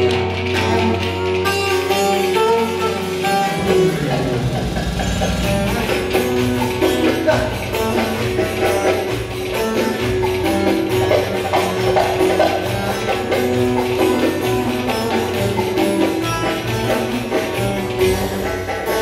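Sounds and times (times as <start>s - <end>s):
fast percussion beat: 0.0s - 19.0s
folk dance melody: 0.0s - 19.0s.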